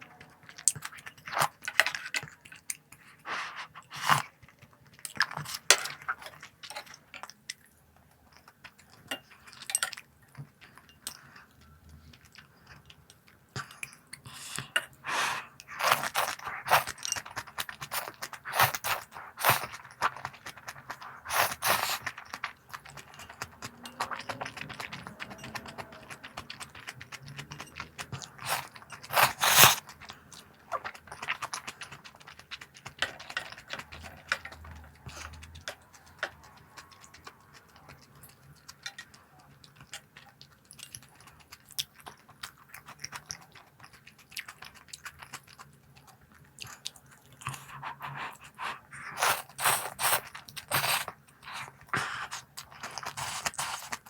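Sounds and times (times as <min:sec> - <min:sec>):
crunchy snack being chewed: 0:10.4 - 0:54.0.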